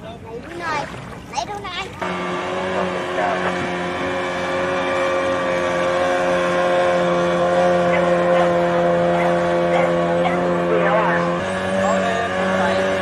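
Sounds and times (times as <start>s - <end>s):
jet ski engine droning: 0.0s - 13.0s.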